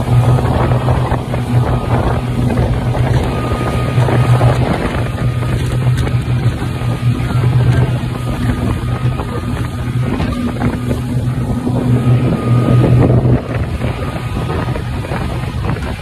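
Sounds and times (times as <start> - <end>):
outboard motor running: 0.0 - 16.0
water rushing: 0.0 - 16.0
wind buffeting microphone: 0.0 - 16.0.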